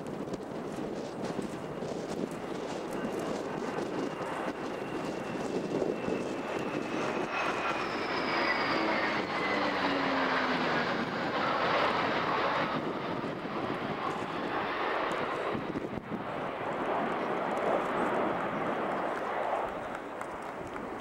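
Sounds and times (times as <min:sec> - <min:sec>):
jets flying past overhead: 0:00.0 - 0:21.0.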